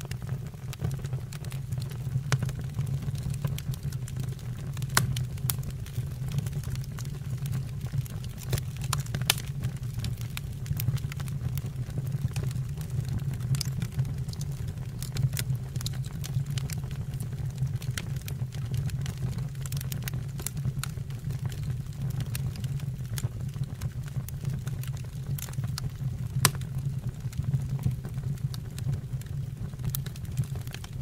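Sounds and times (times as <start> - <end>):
burning wood crackling and popping: 0.0 - 31.0
wood fire rumbling: 0.0 - 31.0.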